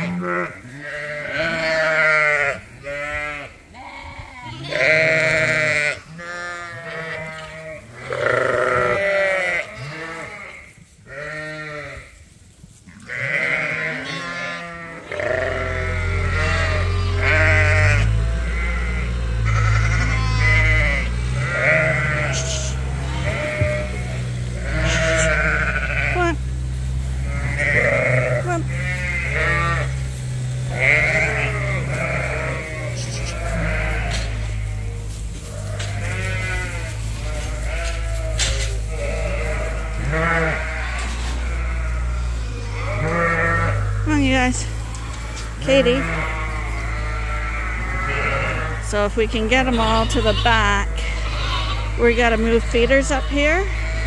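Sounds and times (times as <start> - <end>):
sheep bleating: 0.0 - 12.2, 12.9 - 26.5, 27.1 - 54.0.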